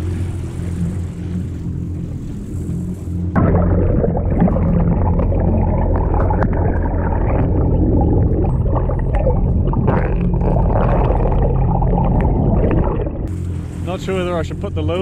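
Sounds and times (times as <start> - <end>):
engine hum through water: 0.0 - 15.0
muffled underwater rushing: 0.0 - 15.0.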